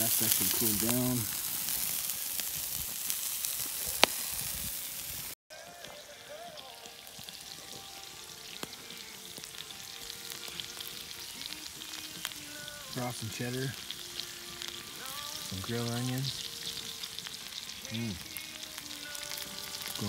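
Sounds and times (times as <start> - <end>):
fire crackling: 0.0 - 20.0
sausages sizzling in a skillet: 0.0 - 20.0.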